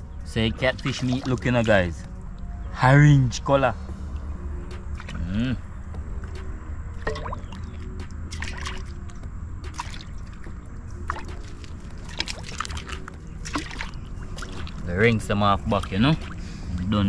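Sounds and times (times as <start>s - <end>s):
water trickling and splashing: 0.1s - 2.5s, 4.7s - 17.0s.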